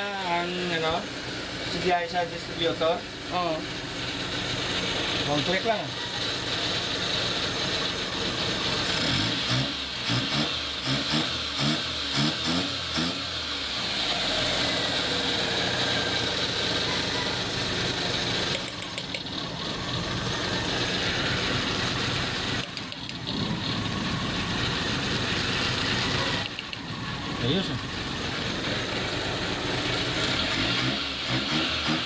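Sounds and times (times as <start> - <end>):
car engine revving and idling: 0.0 - 32.0.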